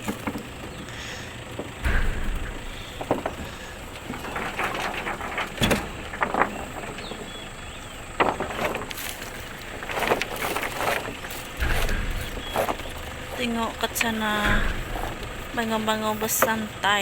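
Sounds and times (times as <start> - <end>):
hard objects knocking and thudding: 0.0 - 16.7.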